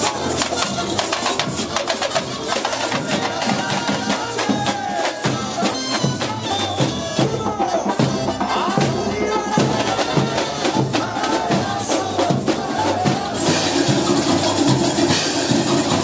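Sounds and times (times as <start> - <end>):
samba drum corps playing: 0.0 - 16.0.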